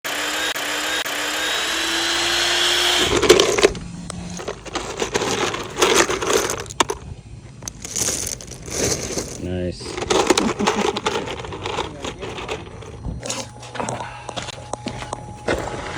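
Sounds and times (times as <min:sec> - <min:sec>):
power tool whining: 0:00.0 - 0:15.9.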